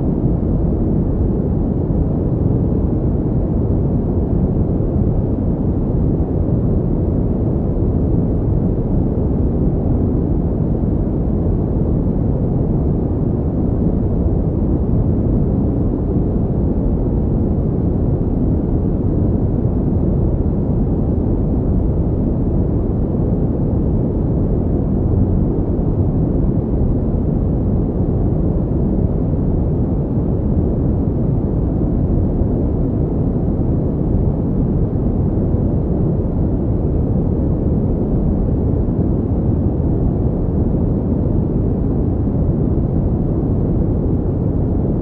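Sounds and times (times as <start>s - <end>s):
steady pink noise: 0.0s - 45.0s.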